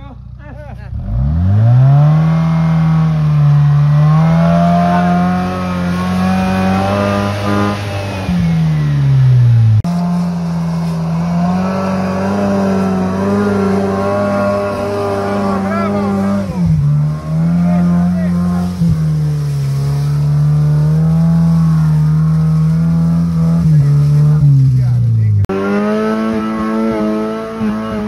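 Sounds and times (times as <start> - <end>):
car engine revving hard: 0.9 - 28.0.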